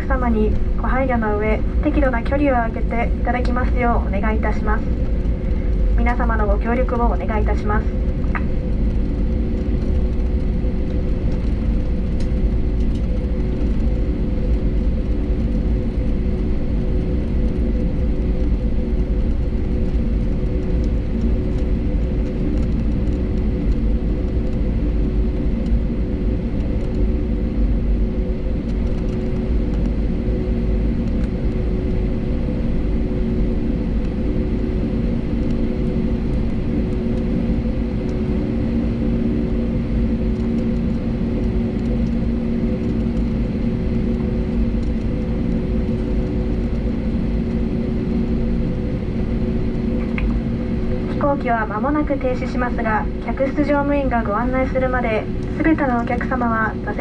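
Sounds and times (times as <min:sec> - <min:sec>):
airplane cabin rumble while taxiing: 0:00.0 - 0:57.0
constant low hum: 0:00.0 - 0:57.0.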